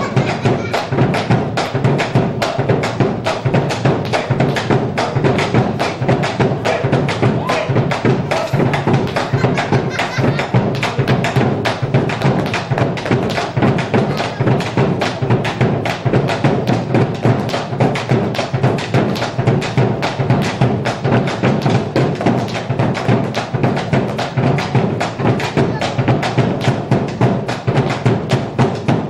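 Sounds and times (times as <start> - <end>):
fast percussive strikes: 0.0 - 29.0.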